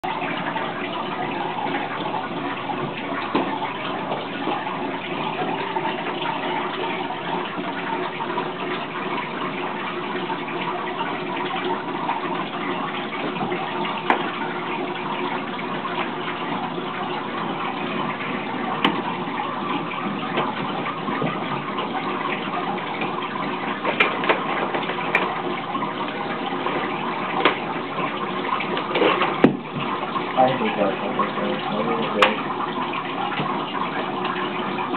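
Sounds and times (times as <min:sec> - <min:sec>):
water running and splashing: 0:00.0 - 0:34.9.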